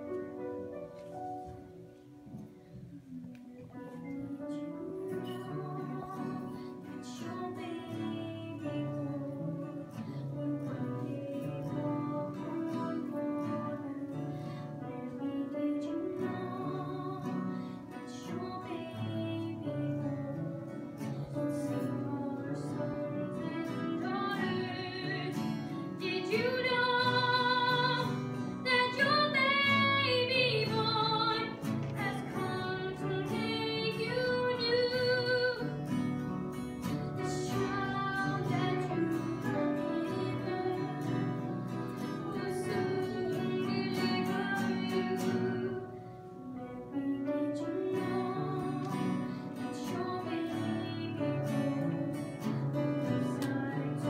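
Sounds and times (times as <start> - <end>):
woman singing a hymn: 2.8 - 54.0.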